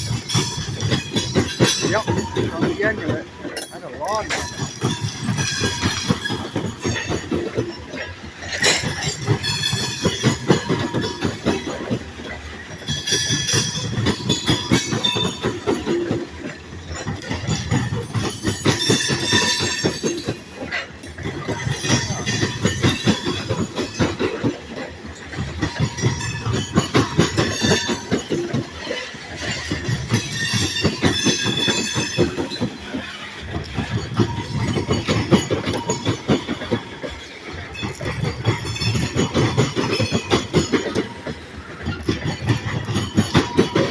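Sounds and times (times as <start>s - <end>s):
train wheels clacking over rail joints: 0.0s - 43.9s.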